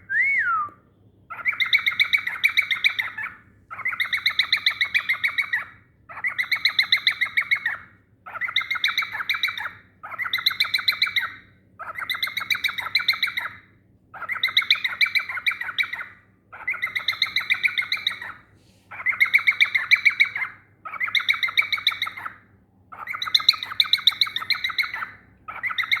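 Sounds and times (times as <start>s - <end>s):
cockatiel chirping chatter: 1.3s - 13.6s, 14.2s - 26.0s.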